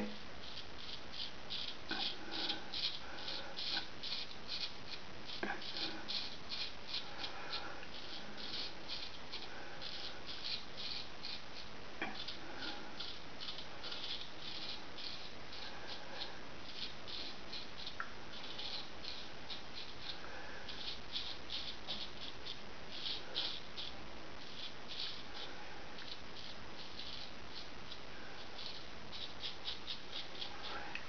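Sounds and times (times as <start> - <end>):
razor scraping stubble: 0.0 - 31.0.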